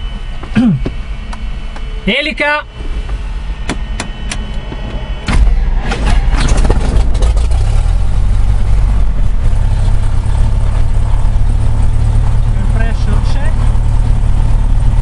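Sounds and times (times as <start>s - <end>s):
aircraft engine starting and idling: 0.0s - 15.0s.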